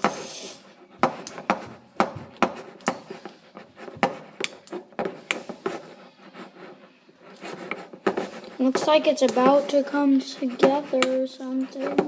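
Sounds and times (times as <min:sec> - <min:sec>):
spoon stirring sticky candy: 0:00.0 - 0:12.0.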